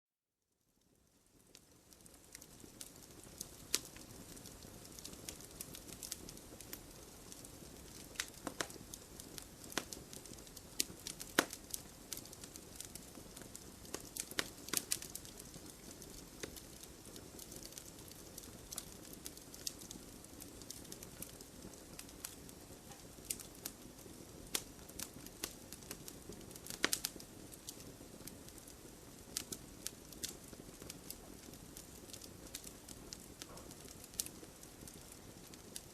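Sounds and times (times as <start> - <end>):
burning wood crackling and popping: 0.8 - 35.9
wood fire hissing: 0.8 - 35.9.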